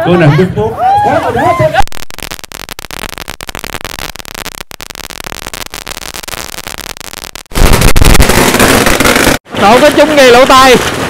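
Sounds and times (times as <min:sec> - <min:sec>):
firecrackers crackling: 0:01.6 - 0:11.0.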